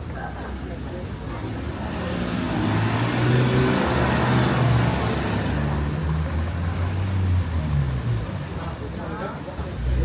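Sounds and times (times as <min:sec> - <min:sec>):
tyre and traffic noise: 0:00.0 - 0:10.0.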